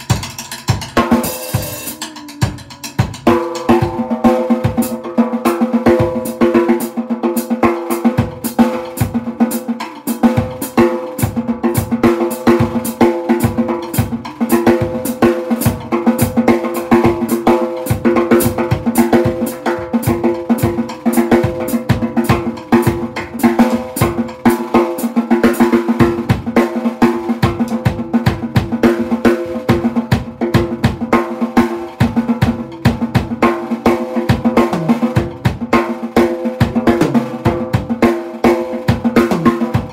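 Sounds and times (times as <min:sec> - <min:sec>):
bass drum: 0:00.0 - 0:05.1, 0:10.3 - 0:39.9.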